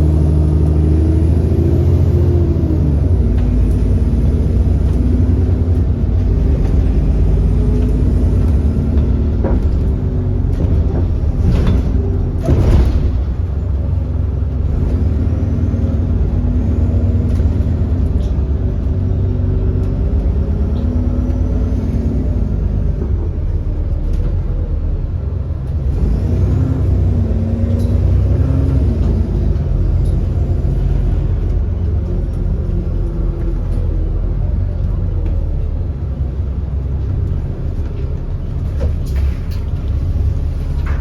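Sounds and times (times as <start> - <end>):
bus diesel engine rumbling: 0.0 - 41.0.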